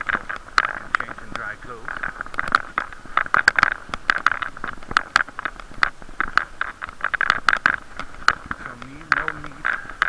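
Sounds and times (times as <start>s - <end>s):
muffled hiss: 0.0s - 10.0s.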